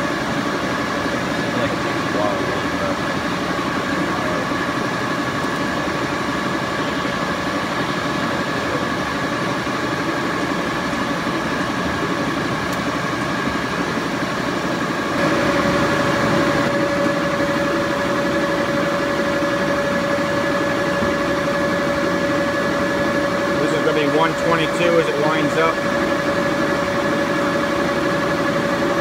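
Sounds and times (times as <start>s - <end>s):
lathe humming with high whine: 0.0s - 29.0s
low steady whine: 0.0s - 29.0s.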